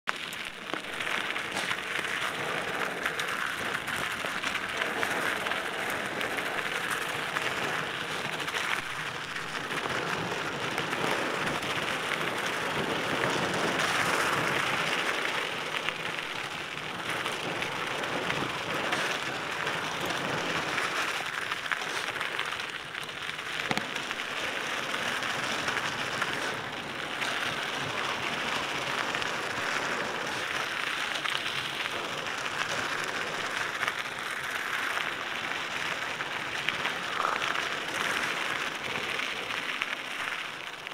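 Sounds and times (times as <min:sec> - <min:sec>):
bike tyres crunching on gravel: 0:00.1 - 0:40.9.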